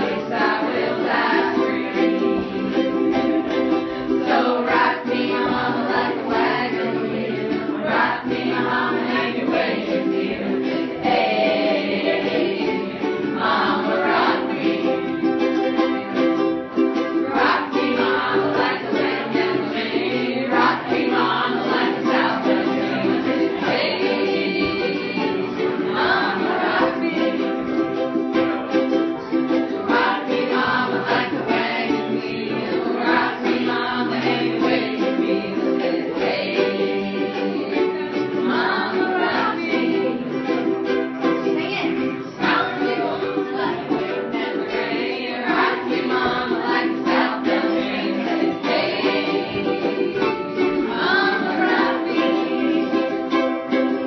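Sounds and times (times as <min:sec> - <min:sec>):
people singing along: 0:00.0 - 0:54.0
strummed string instrument: 0:00.0 - 0:54.0.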